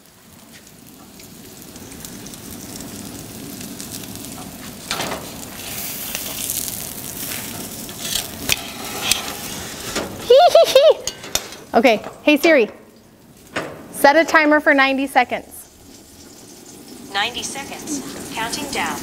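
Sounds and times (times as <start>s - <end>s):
steak sizzling on a grate: 0.0s - 19.0s.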